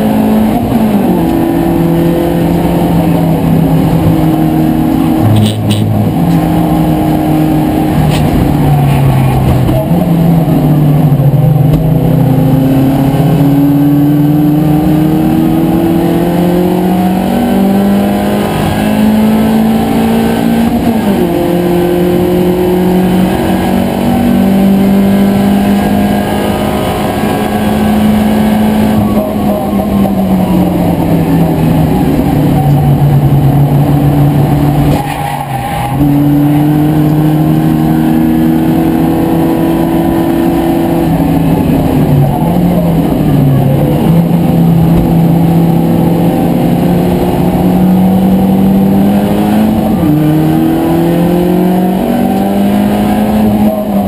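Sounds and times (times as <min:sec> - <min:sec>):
race car engine revving hard: 0:00.0 - 0:54.0.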